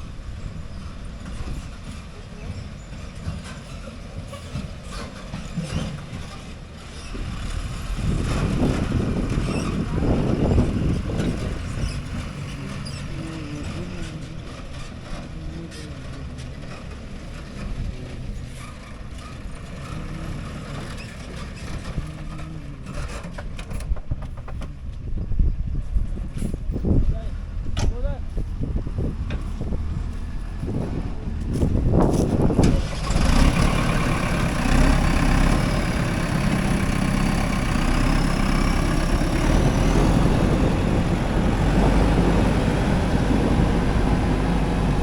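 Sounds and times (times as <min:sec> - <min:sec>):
diesel engine running under load: 0:00.0 - 0:45.0.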